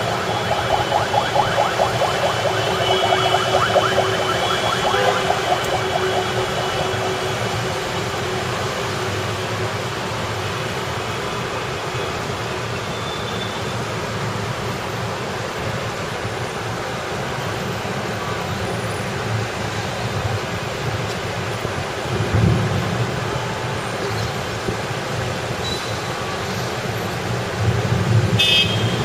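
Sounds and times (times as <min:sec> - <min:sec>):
passing street traffic: 0:00.0 - 0:29.0.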